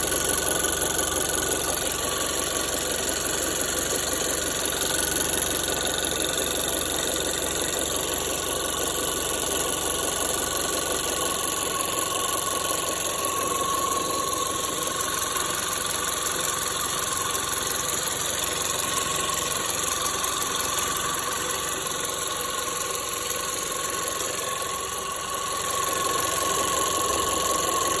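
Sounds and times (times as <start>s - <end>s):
car engine idling with rattle: 0.0s - 28.0s.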